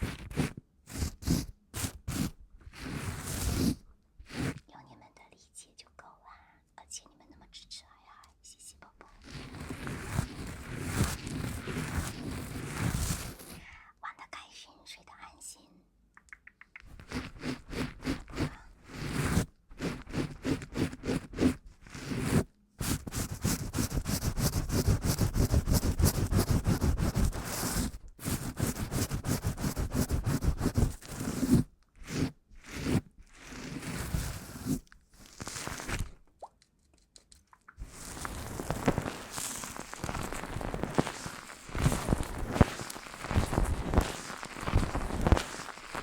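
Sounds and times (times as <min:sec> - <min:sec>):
close scratching and tapping: 0:00.0 - 0:04.6, 0:09.1 - 0:13.6, 0:16.2 - 0:46.0.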